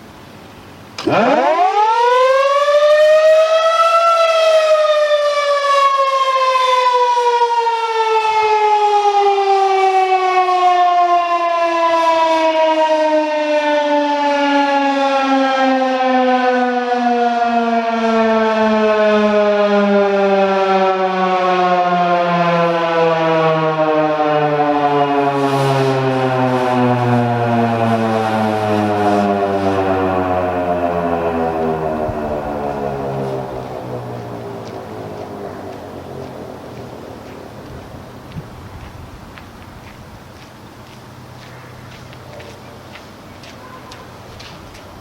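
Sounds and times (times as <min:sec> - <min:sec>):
tornado siren wailing: 0:01.0 - 0:39.2.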